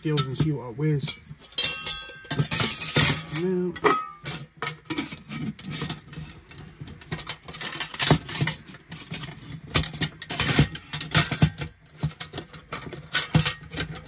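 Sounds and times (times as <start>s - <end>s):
metal pot and lid clinking: 0.0s - 14.0s.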